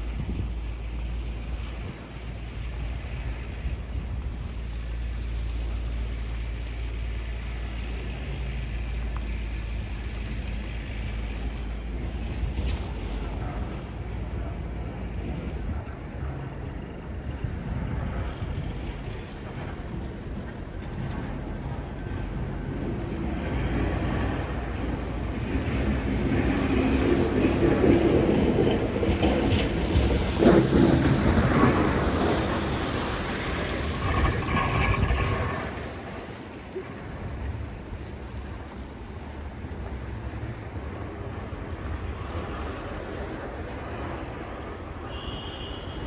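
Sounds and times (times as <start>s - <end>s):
vehicle passing on snowy street: 0.0s - 46.0s
wind rumbling on microphone: 0.0s - 46.0s.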